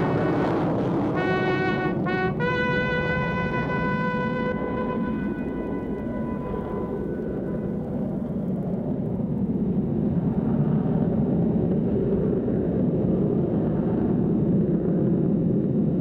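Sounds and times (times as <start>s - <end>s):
warplane engines rumbling overhead: 0.0s - 16.0s.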